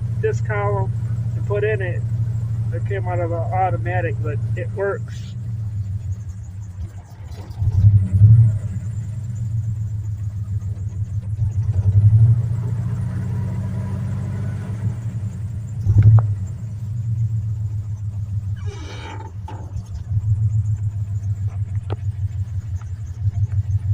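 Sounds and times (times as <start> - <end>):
car engine running low rumble: 0.0 - 23.9.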